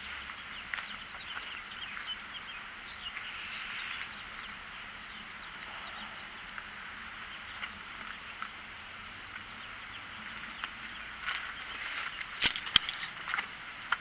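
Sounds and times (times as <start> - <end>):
many birds chirping: 0.0 - 14.0.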